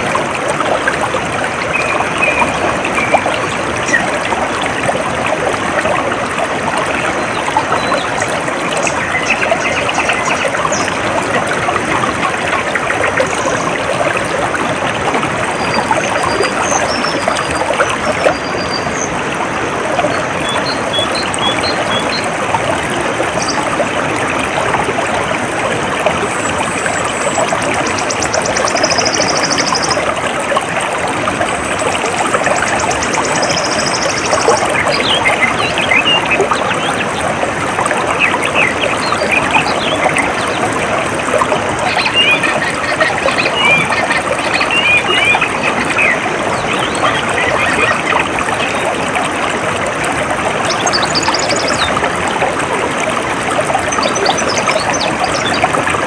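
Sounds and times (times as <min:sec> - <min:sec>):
stream water trickling: 0:00.0 - 0:56.0.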